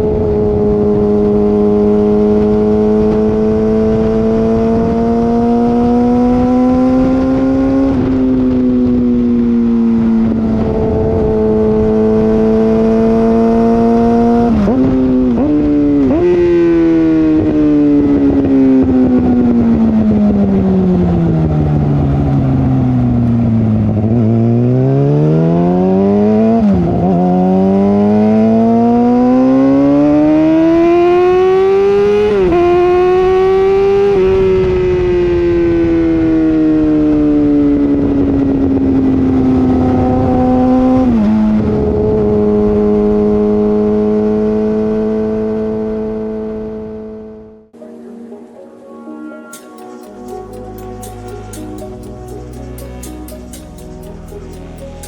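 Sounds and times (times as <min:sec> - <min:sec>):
motorcycle exhaust while riding: 0:00.0 - 0:47.6, 0:49.6 - 0:55.0.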